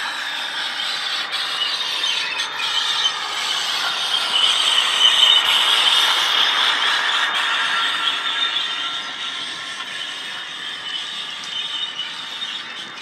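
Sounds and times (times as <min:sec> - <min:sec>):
model train wheels on track: 0:00.0 - 0:13.0.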